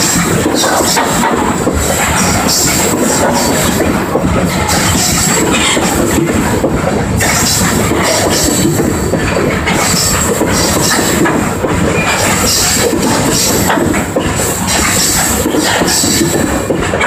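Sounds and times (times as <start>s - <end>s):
train wheels rumbling on rail: 0.0s - 17.0s
wheels clacking over rail joints: 0.0s - 17.0s.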